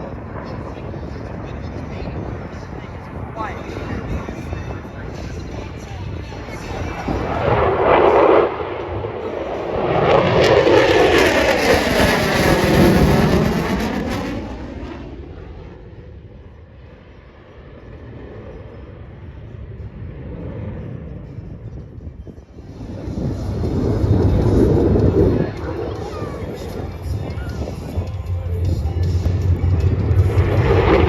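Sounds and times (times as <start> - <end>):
jet aircraft flying past: 0.0 - 31.0.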